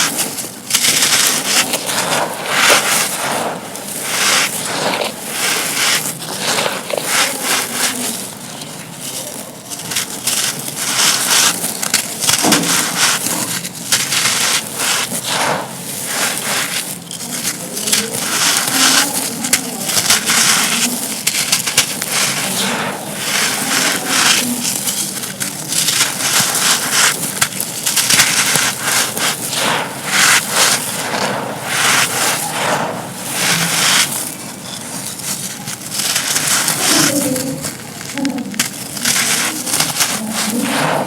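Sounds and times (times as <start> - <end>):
dry pieces crunching by hand: 0.0 - 41.0.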